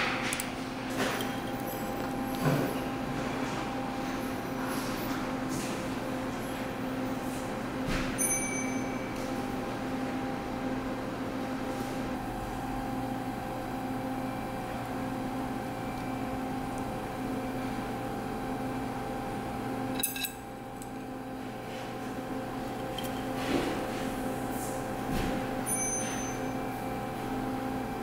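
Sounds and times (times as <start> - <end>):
appliance humming: 0.0 - 28.0.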